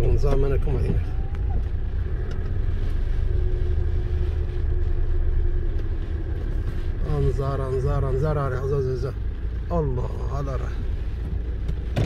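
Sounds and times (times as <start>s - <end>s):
heavy rain: 0.9s - 12.0s.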